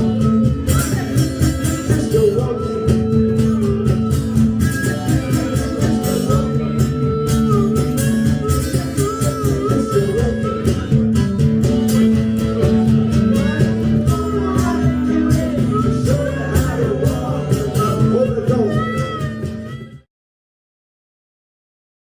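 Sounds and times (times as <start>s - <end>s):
person singing: 0.0s - 20.0s
strummed guitar: 0.0s - 20.1s.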